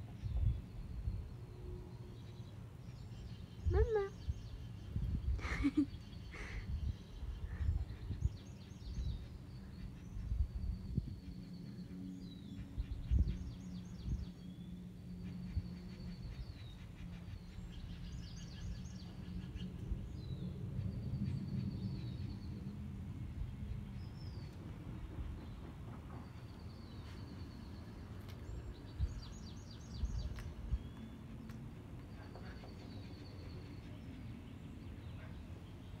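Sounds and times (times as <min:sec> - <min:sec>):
songbirds trilling and whistling: 0:00.0 - 0:36.0.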